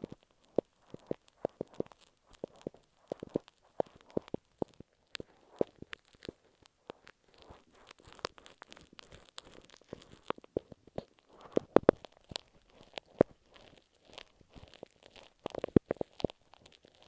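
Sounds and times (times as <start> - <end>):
glue stick tapping and scraping: 0.0 - 17.0.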